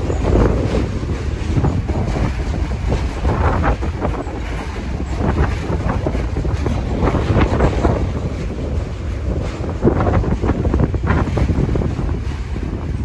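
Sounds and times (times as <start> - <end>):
subway train rumble: 0.0 - 13.0
wheel clatter: 0.0 - 13.0
wind buffeting microphone: 0.0 - 13.0.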